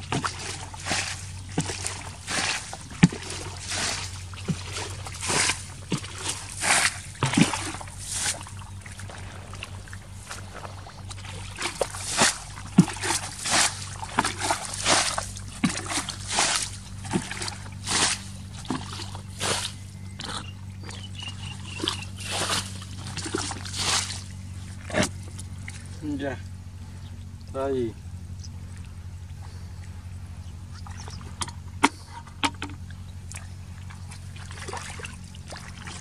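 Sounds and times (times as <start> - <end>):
sloshing in muddy water: 0.0 - 27.4, 28.3 - 36.0.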